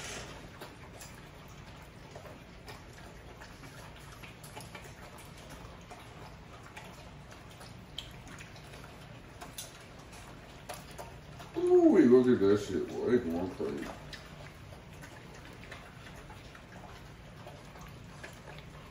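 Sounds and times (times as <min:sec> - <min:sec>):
puppies chewing and lapping: 0:00.0 - 0:18.9.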